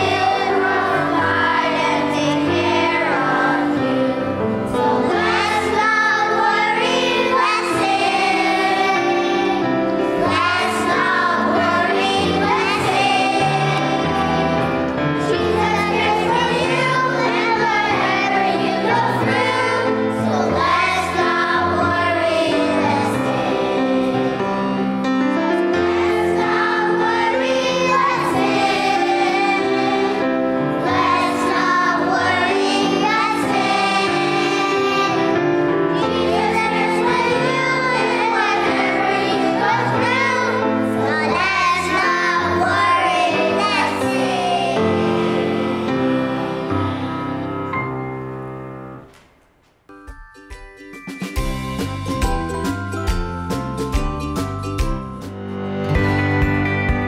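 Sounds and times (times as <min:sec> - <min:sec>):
children's choir singing: 0:00.0 - 0:49.1
instrumental accompaniment: 0:00.0 - 0:57.0.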